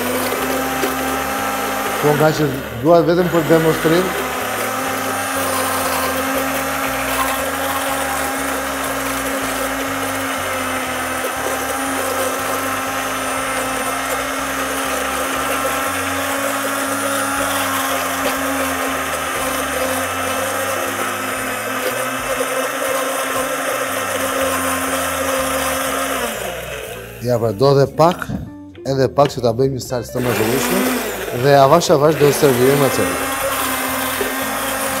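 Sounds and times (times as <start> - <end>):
immersion blender running: 0.0 - 28.2, 30.2 - 35.0.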